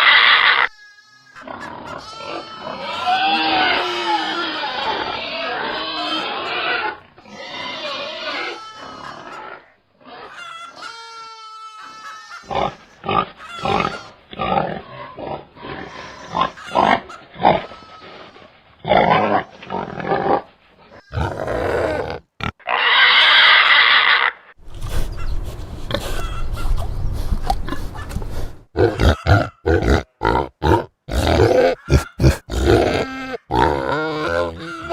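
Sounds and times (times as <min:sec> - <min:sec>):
rough pig cry: 0:00.0 - 0:26.9, 0:27.6 - 0:34.9
pig calling: 0:00.0 - 0:34.9
pigs grunting: 0:01.4 - 0:10.6, 0:12.4 - 0:34.9.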